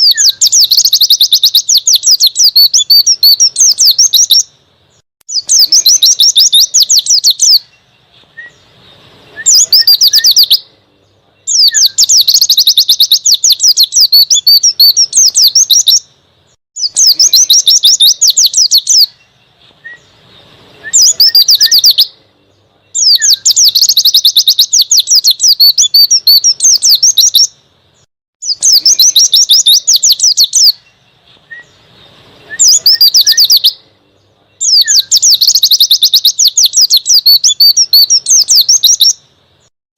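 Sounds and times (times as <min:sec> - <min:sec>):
bird twittering rapidly: 0:00.0 - 0:16.2, 0:16.8 - 0:39.7.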